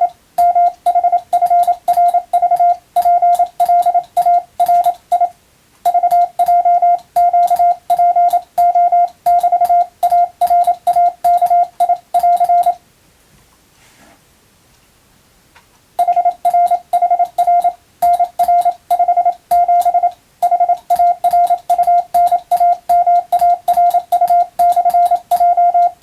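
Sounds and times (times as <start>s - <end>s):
morse code beeps: 0.0s - 12.8s, 16.0s - 26.0s
keying clicks: 0.4s - 5.3s, 5.9s - 12.8s, 16.0s - 26.0s.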